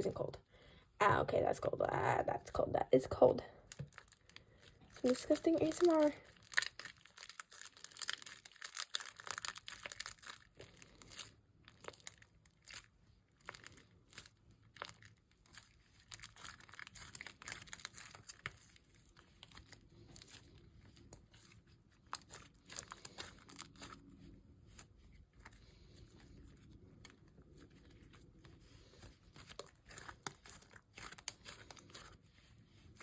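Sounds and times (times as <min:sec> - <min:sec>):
slime being kneaded by hand: 0:03.7 - 0:33.0.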